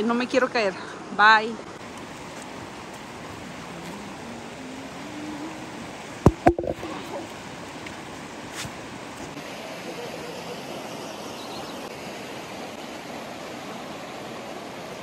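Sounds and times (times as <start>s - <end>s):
water rushing over rocks: 1.4s - 15.0s.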